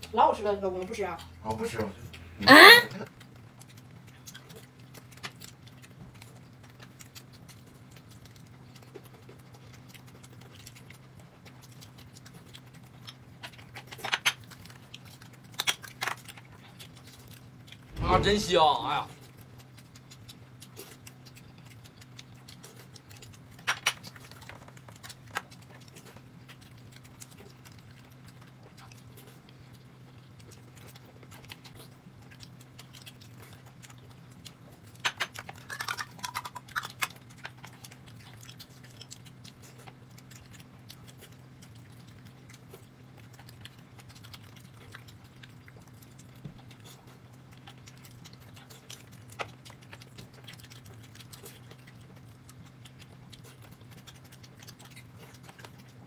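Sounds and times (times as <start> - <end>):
steady low hum: 0.0 - 15.6, 16.2 - 56.0
soft chewing: 0.0 - 18.3, 19.0 - 56.0.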